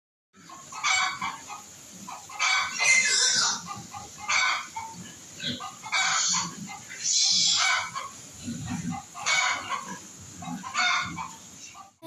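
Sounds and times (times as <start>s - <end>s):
chickens clucking: 0.4s - 12.0s.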